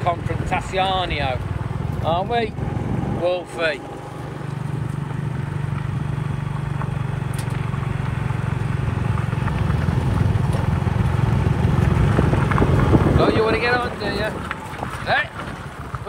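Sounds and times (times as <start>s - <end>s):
road and wind noise: 0.0s - 16.0s
small motorbike engine running: 0.0s - 16.0s.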